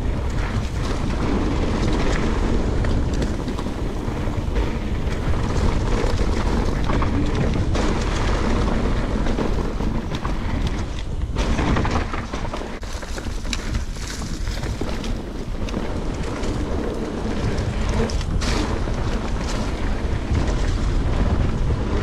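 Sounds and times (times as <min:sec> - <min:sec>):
bike clicks and rattles: 0:00.0 - 0:22.0
bike tyre noise: 0:00.0 - 0:22.0
wind buffeting microphone: 0:00.0 - 0:22.0.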